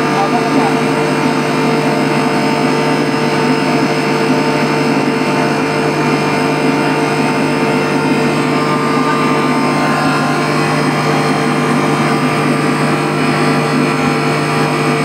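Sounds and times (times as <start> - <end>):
fire pump machine hum: 0.0 - 15.0.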